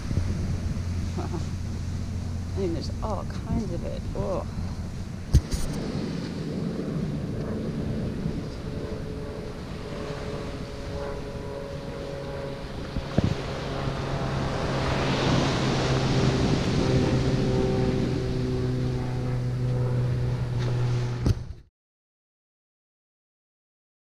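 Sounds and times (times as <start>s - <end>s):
wind and surf rushing: 0.0s - 21.5s
low engine drone: 0.0s - 21.7s.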